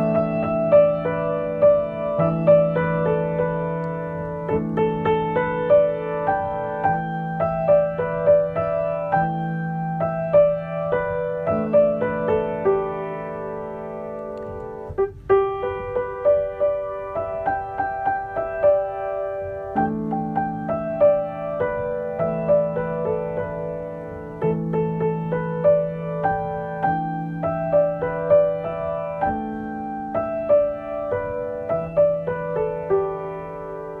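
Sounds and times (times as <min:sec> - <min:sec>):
solo piano music: 0:00.0 - 0:34.0.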